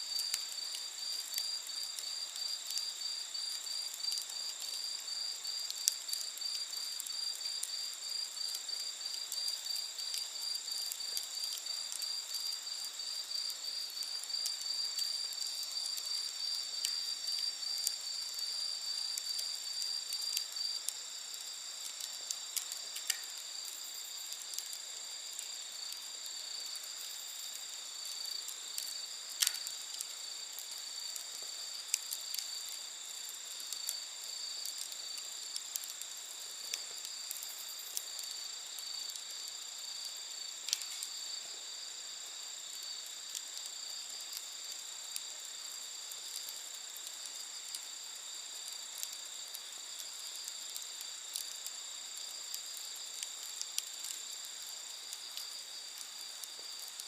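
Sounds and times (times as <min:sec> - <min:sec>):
night insects chorus: 0:00.0 - 0:57.0
campfire popping and crackling: 0:00.1 - 0:57.0.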